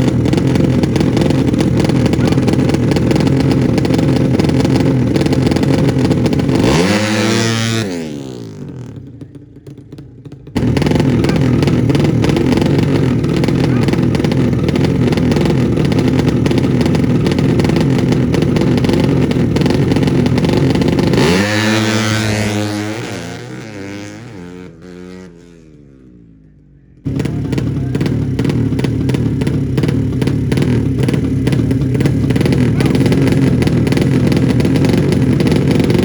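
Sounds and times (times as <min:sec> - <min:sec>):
motorcycle engines running hard: 0:00.0 - 0:36.0.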